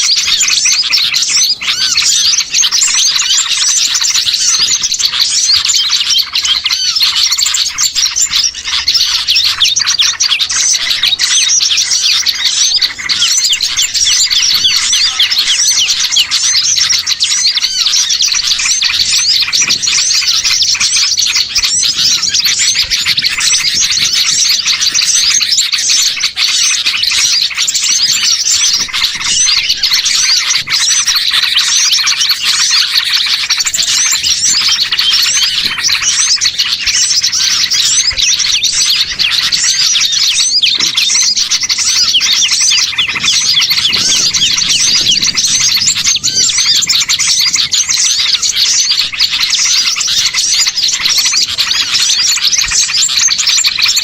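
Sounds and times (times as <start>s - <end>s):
small songbirds chirping and twittering: 0.0s - 54.0s.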